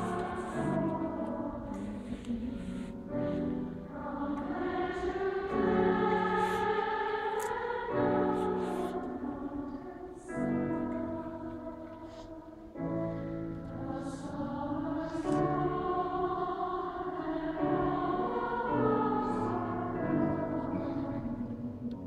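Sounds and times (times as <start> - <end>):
choir singing slow chords: 0.0 - 22.0.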